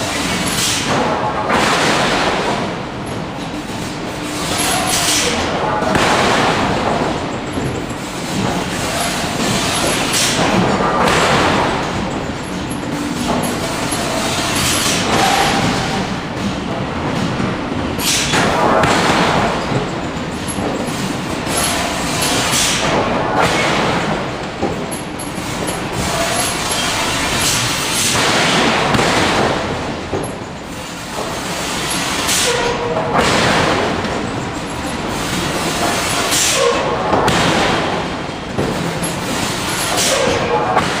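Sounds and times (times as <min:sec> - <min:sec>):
industrial machinery rumble: 0:00.0 - 0:41.0.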